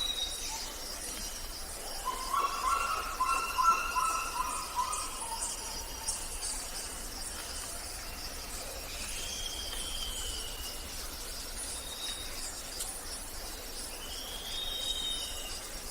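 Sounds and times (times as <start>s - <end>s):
insect chorus: 0.0s - 15.9s.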